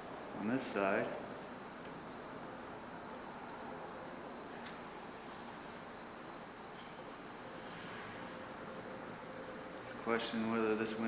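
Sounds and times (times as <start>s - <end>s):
crickets chirring: 0.0s - 11.0s
faint steady hum: 0.0s - 11.0s.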